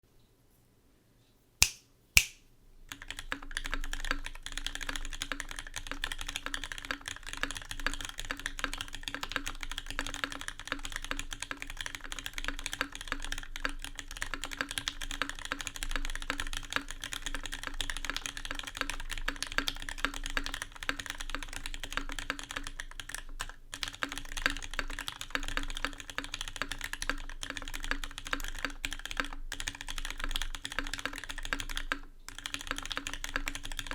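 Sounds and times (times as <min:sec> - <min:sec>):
fast mechanical keyboard typing: 0:02.9 - 0:33.9.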